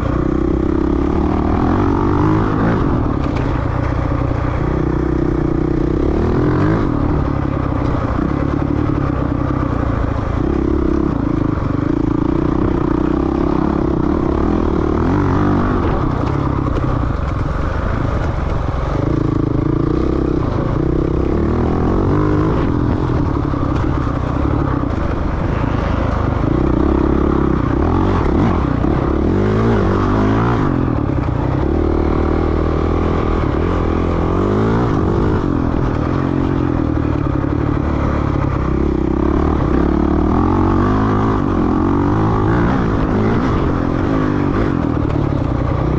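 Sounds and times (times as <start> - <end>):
dirt bike engine revving: 0.0 - 3.8, 4.4 - 45.9
bike rattling over rough ground: 0.0 - 45.9.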